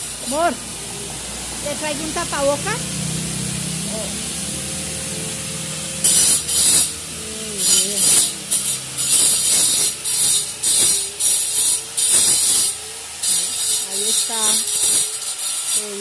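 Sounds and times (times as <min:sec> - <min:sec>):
electric grinder abrading brick: 0:00.0 - 0:16.0.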